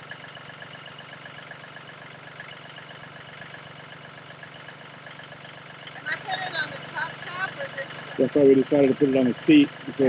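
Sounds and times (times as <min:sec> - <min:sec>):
diesel tractor engine idling: 0:00.0 - 0:10.0.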